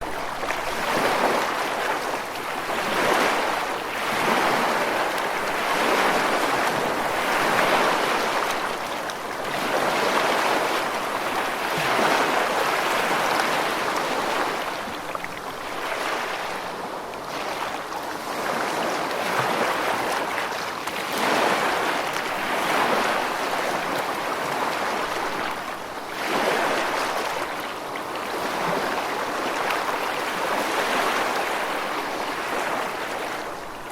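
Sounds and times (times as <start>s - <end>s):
ocean surf: 0.0s - 33.9s.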